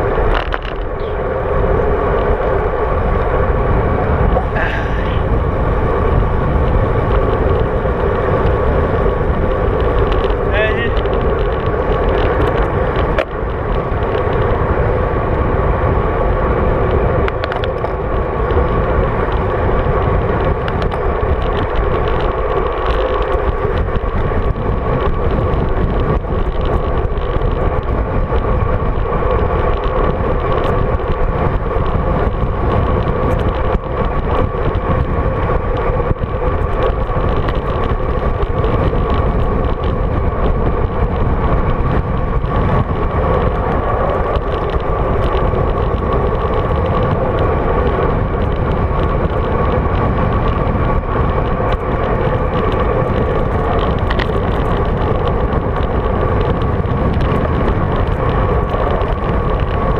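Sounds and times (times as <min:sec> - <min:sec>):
tyres on asphalt: 0:00.0 - 0:59.9
wind rushing over camera: 0:00.0 - 0:59.9.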